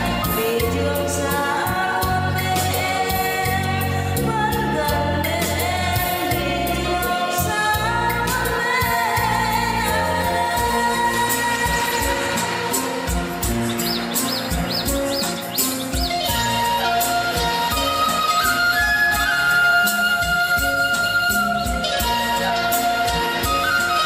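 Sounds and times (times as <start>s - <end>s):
band accompaniment with bass: 0.0s - 24.0s.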